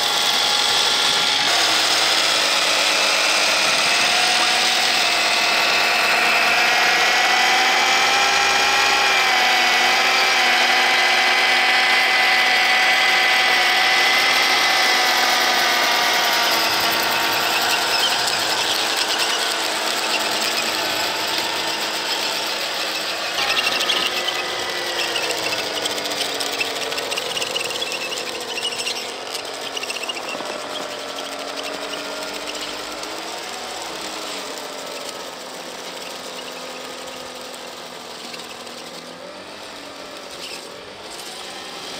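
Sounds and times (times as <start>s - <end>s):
electric motors whining: 0.0s - 41.9s.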